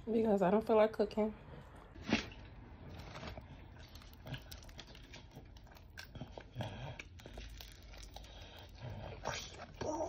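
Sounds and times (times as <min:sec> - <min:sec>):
crispy chicken crunching: 0:01.9 - 0:10.0.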